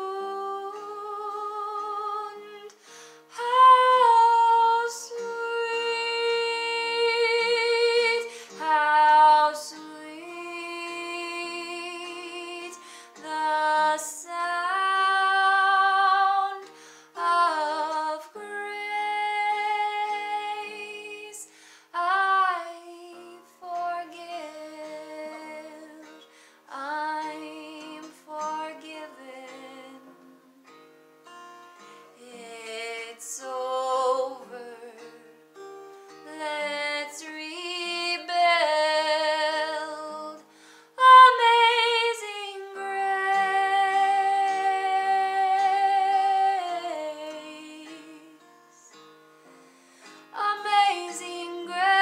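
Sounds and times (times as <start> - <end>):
woman singing wordless melody: 0.0 - 30.8, 31.8 - 49.1, 50.0 - 52.0
acoustic guitar: 0.0 - 52.0.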